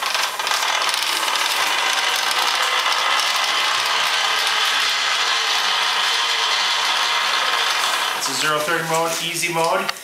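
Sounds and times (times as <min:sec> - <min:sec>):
electric motorcycle drivetrain whirring: 0:00.0 - 0:09.2.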